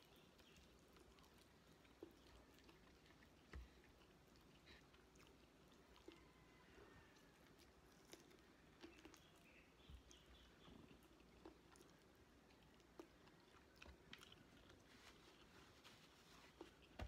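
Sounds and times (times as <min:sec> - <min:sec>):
chewing and mouth clicks: 0:00.0 - 0:15.8.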